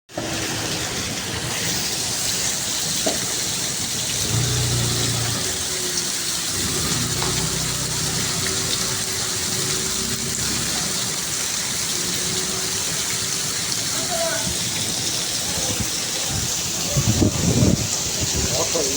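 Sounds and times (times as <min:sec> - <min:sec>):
heavy rain: 0:00.1 - 0:18.9.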